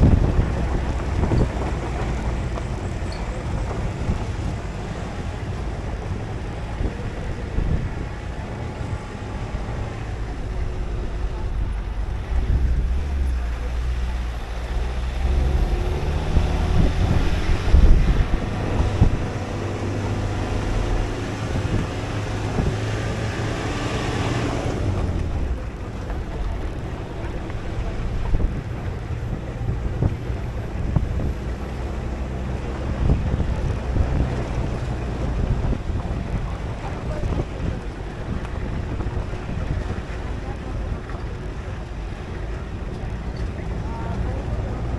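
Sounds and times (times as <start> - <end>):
vehicle bumps: 0.0 - 44.9
vehicle engine running: 0.0 - 44.9
wind buffeting microphone: 0.0 - 44.9.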